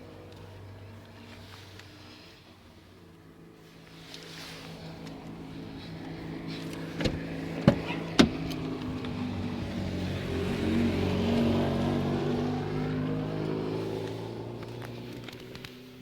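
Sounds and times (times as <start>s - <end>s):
diesel engine running: 0.0s - 15.3s.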